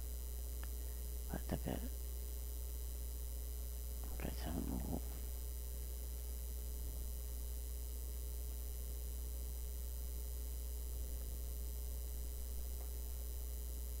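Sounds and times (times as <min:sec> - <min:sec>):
faint high whine: 0:00.0 - 0:14.0
low electrical hum: 0:00.0 - 0:14.0.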